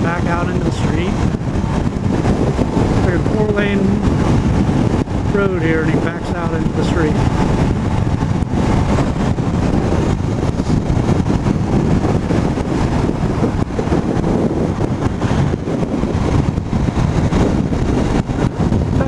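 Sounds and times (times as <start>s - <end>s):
motorcycle engine: 0.0s - 19.0s
road noise: 0.0s - 19.0s
wind rushing over microphone: 0.0s - 19.0s.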